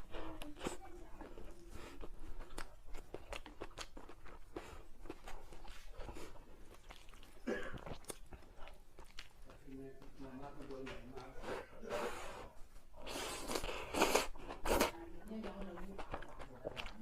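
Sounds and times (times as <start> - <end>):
chewing crisp food: 0.0 - 12.1, 12.8 - 17.0.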